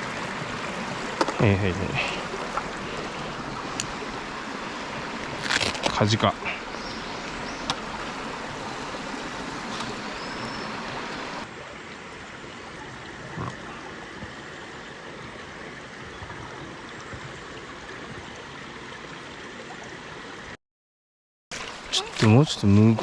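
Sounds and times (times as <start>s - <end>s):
stream water flowing: 0.0s - 20.6s, 21.5s - 23.0s.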